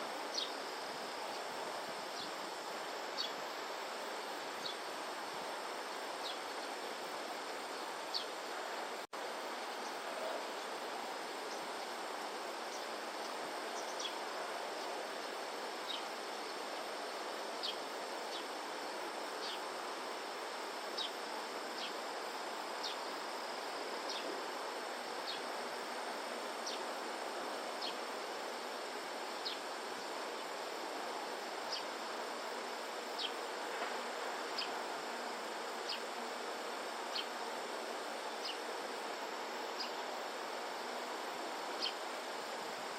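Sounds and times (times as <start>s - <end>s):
outdoor background hiss: 0.0s - 42.9s.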